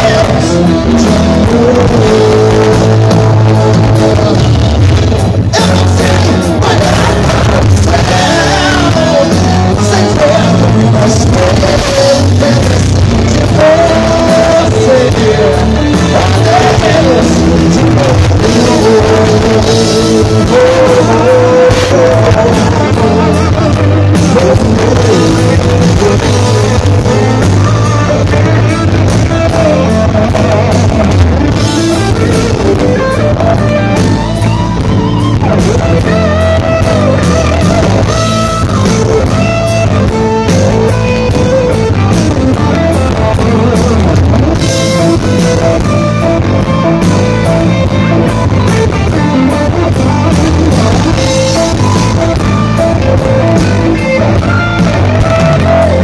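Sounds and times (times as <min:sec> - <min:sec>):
bass guitar: 0:00.0 - 0:56.0
drum kit: 0:00.0 - 0:56.0
electric guitar: 0:00.0 - 0:56.0
live band playing rock beat: 0:00.0 - 0:56.0.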